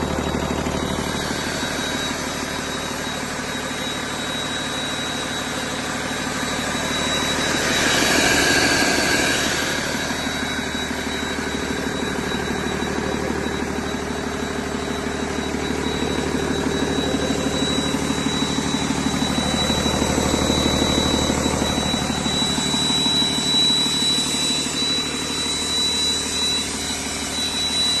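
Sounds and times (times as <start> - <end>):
diesel engine running: 0.0 - 28.0
thin high whine: 0.0 - 28.0.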